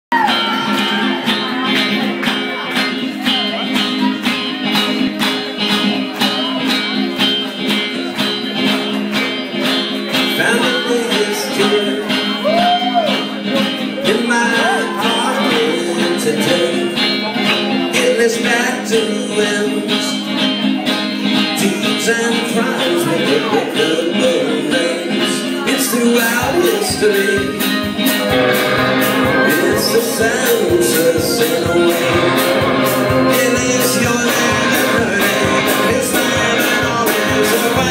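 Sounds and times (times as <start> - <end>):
banjo: 0.1 - 37.9
drums: 0.1 - 37.9
electric guitar: 0.1 - 37.9
upright bass: 0.1 - 37.9.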